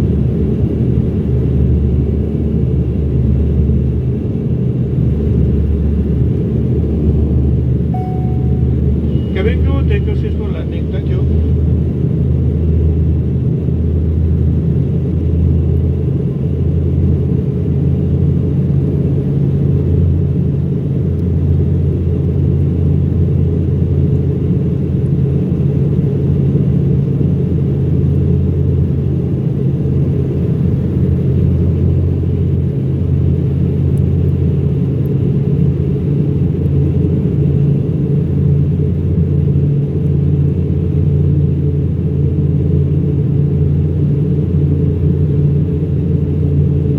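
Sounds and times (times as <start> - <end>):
turboprop engines droning in cabin: 0.0 - 46.9.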